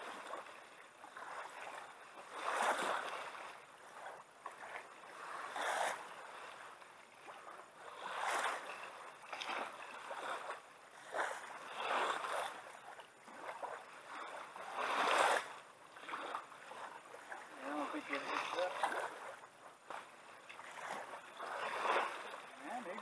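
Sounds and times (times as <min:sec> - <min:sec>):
waves splashing against kayak hull: 0:00.0 - 0:23.0.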